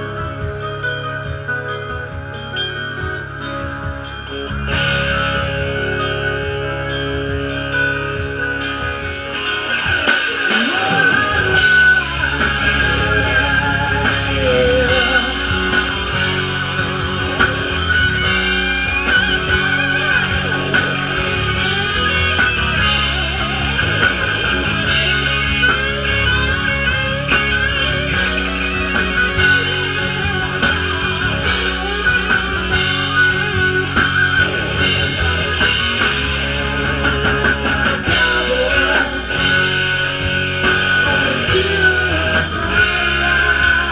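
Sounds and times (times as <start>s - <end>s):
live rock band playing: 0.0s - 43.9s
harmonica wailing: 4.7s - 43.9s.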